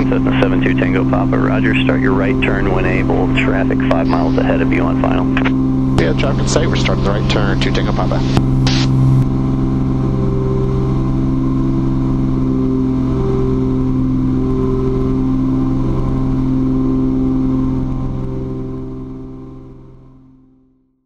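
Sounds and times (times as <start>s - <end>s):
twin propeller engines droning: 0.0s - 19.5s.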